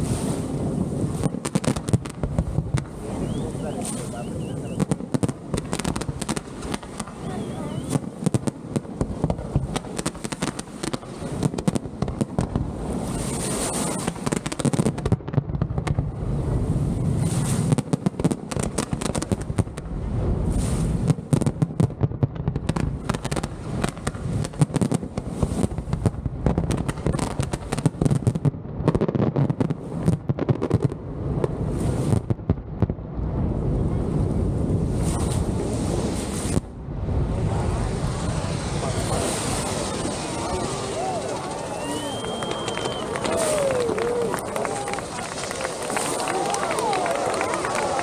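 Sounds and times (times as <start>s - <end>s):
sharp firework bangs: 0.0s - 33.5s, 34.8s - 48.0s
fireworks bursting and crackling: 0.0s - 48.0s.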